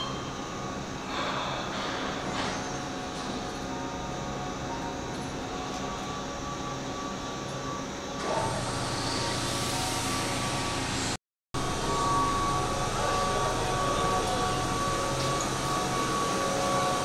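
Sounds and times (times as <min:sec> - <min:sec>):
electric train running: 0:02.3 - 0:17.0.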